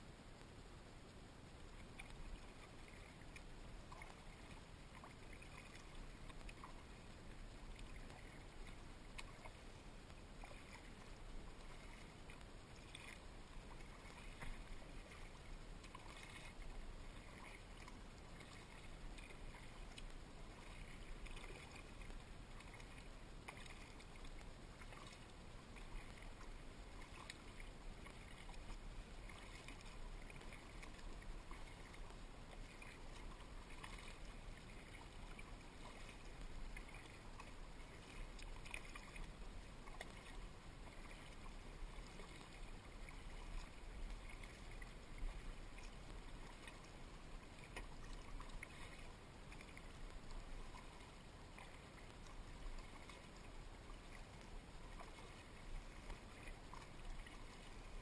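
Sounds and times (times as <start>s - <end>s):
faint steady hiss: 0.0s - 58.0s
paddle dipping in water: 0.0s - 58.0s.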